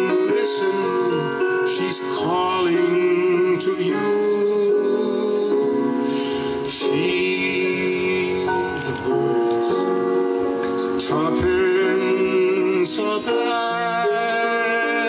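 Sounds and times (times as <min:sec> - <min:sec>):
grand piano chords: 0:00.0 - 0:15.0.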